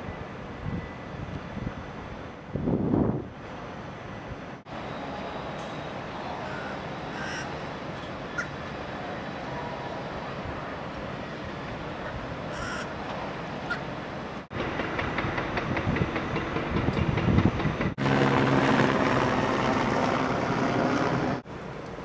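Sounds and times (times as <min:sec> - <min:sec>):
traffic rumble: 0:00.0 - 0:22.0
machinery: 0:03.4 - 0:12.2, 0:13.0 - 0:22.0.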